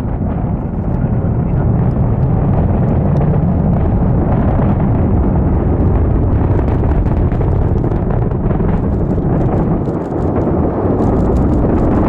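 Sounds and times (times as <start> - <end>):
faint crackles: 0.0 - 12.0
rocket engines deep rumble: 0.0 - 12.0.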